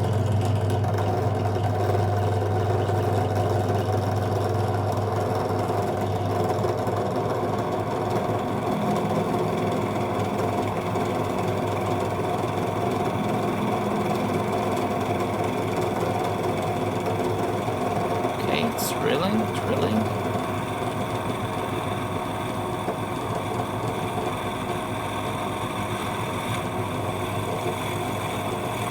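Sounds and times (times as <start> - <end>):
drill press motor humming: 0.8 - 28.9.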